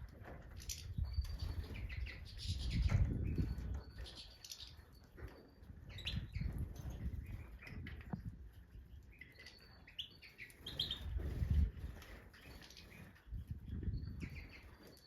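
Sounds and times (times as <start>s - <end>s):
goldfinches twittering: 0.7s - 7.8s, 9.0s - 15.0s.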